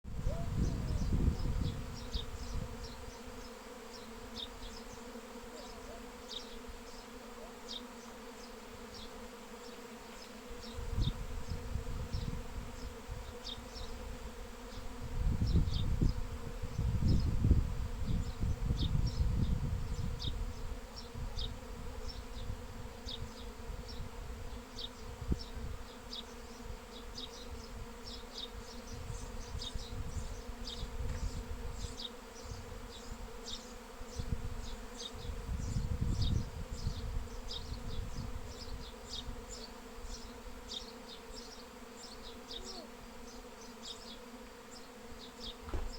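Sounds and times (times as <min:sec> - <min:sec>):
bees buzzing: 0:00.1 - 0:45.9
small birds chirping: 0:00.3 - 0:14.0, 0:18.2 - 0:45.9.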